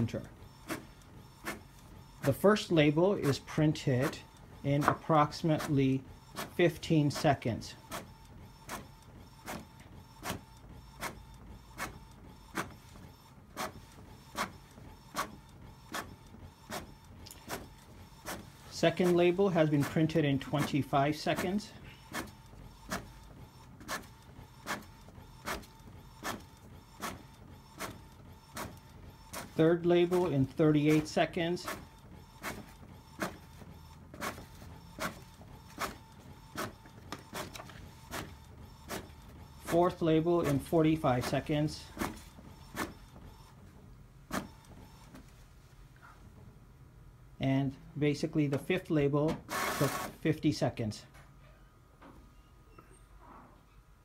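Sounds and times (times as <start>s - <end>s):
label printer printing strokes: 0.0s - 43.7s, 44.3s - 45.2s, 48.4s - 50.6s
low mechanical hum: 0.0s - 50.2s.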